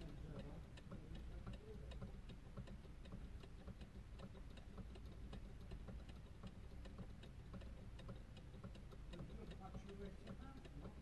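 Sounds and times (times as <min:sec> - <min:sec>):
faint even ticking: 0:00.0 - 0:11.0.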